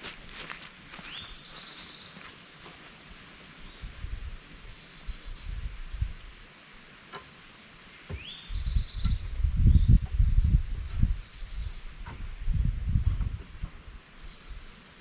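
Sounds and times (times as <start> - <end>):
small birds chirping: 0.0 - 5.7, 7.2 - 12.2, 13.2 - 15.0.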